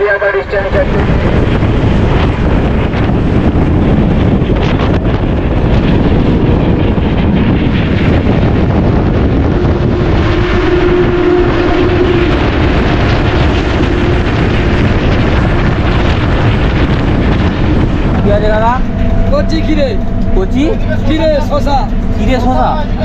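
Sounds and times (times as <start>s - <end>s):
bus road noise at highway speed: 0.0s - 23.0s
wind buffeting microphone: 0.0s - 23.0s
wind rushing at open window: 0.0s - 23.0s.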